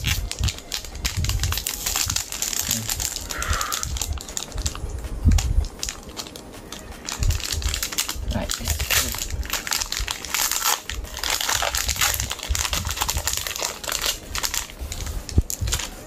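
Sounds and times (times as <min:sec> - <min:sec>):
foil wrapper crinkling and tearing: 0:00.0 - 0:16.0.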